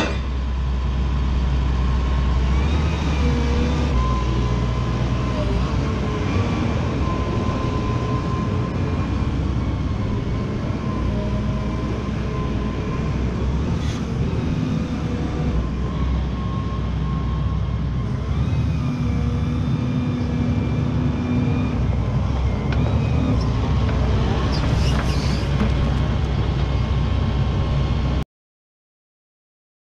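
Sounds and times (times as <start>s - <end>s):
diesel excavator engine running: 0.0s - 28.2s.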